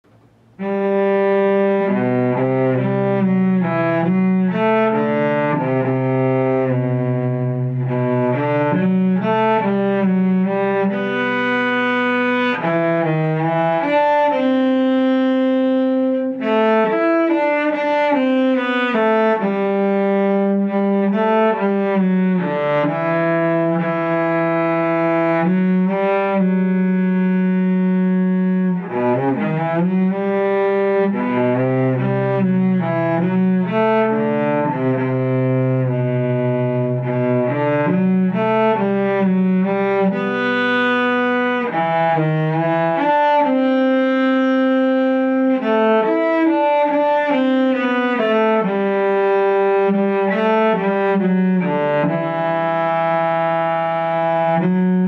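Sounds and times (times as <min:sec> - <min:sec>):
cello slow bowed melody: 0:00.0 - 0:55.0.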